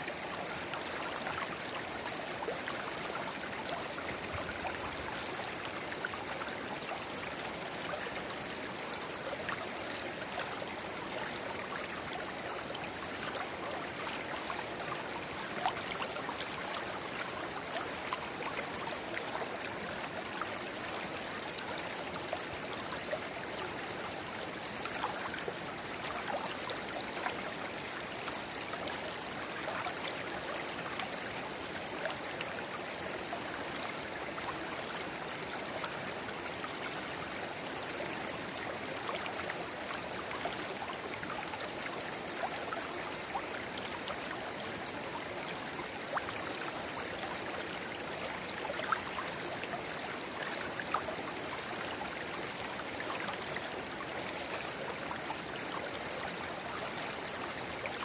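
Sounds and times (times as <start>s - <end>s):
river babbling: 0.1s - 58.0s.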